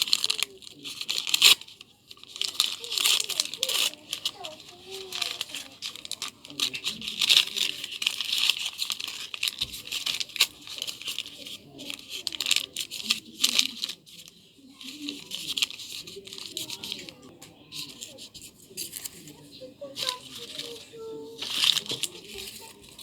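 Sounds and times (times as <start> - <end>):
gift wrapping crinkling and tearing: 0.0 - 23.0.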